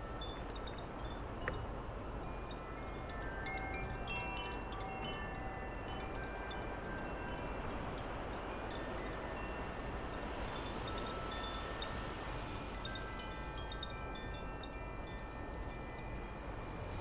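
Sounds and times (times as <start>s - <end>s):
low wind rumble on microphone: 0.0s - 17.0s
wind chimes ringing: 0.0s - 17.0s.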